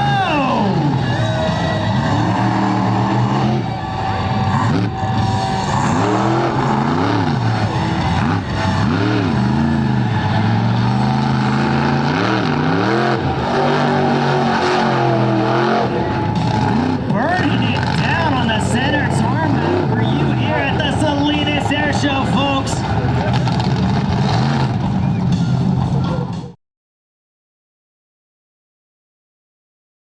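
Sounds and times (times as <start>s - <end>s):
truck engine revving: 0.0s - 26.6s.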